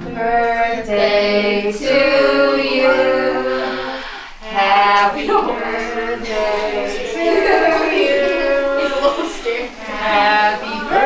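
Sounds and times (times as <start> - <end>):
voices singing long notes: 0.0 - 11.0.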